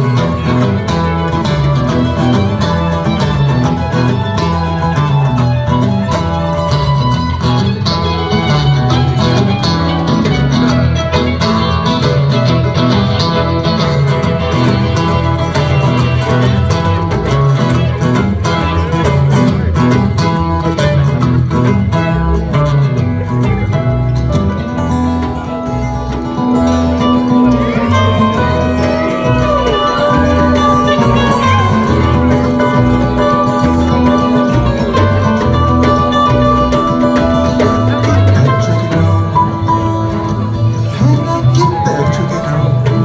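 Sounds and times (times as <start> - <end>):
bass line: 0.0 - 43.0
drums: 0.0 - 43.0
guitars: 0.0 - 43.0.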